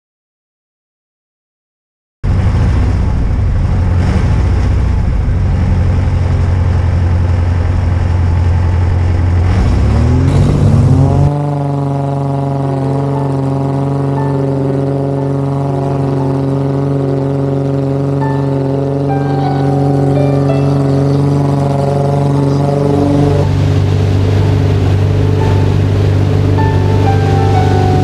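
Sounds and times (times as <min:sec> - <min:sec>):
light aircraft engine running: 0:02.3 - 0:28.0.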